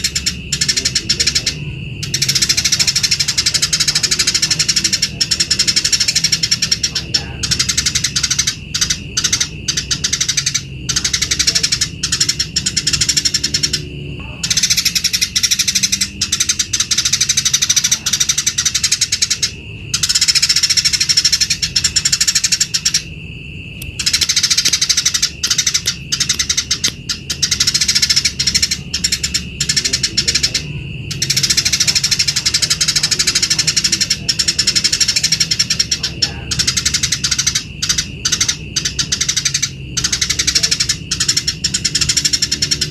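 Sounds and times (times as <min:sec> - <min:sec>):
sparrows chirping: 0:00.0 - 0:42.9.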